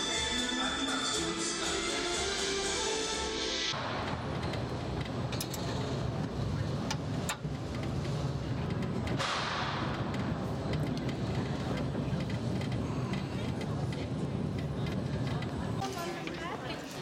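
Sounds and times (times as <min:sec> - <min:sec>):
train rumbling into platform: 0:00.0 - 0:17.0.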